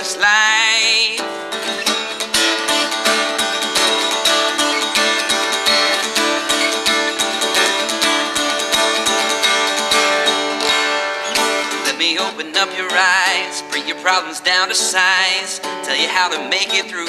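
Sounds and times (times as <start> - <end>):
person singing: 0.0 - 10.6, 11.4 - 17.0
acoustic guitar strumming: 0.0 - 17.0.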